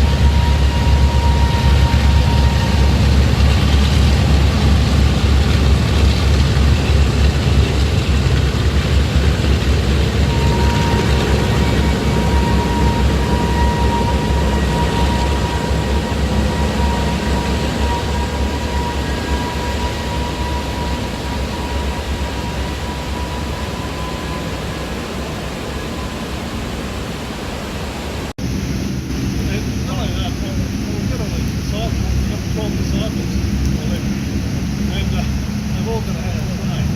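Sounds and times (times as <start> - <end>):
piston aircraft engines droning: 0.0 - 36.9.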